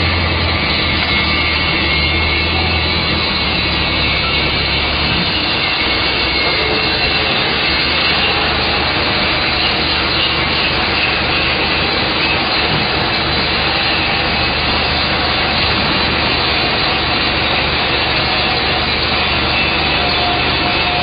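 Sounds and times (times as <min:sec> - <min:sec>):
loud machinery noise: 0:00.0 - 0:21.0.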